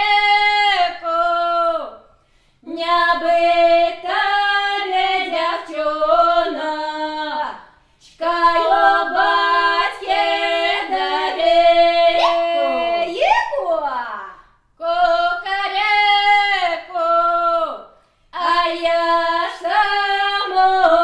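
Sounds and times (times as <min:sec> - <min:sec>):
woman singing unaccompanied: 0:00.0 - 0:02.0, 0:02.6 - 0:21.0.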